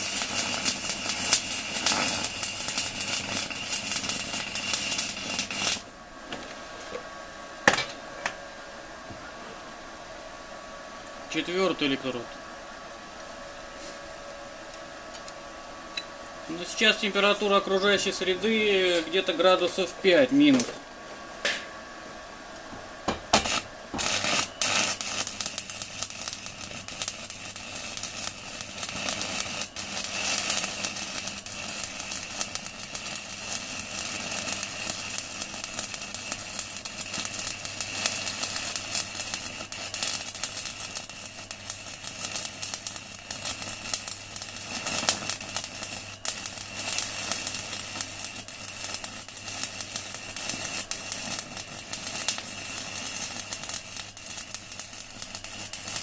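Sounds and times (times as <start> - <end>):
welding arc crackling: 0.0 - 6.6, 11.3 - 12.3, 14.2 - 21.7, 22.5 - 56.0.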